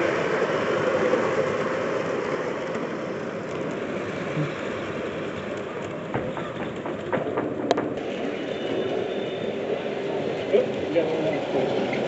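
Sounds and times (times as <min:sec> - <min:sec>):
model train wheels rolling on rail: 0:00.0 - 0:12.0.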